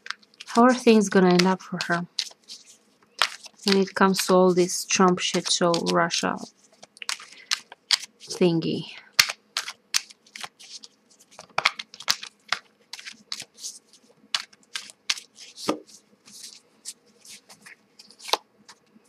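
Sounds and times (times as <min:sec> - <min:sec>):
cards being shuffled: 0:00.0 - 0:18.9.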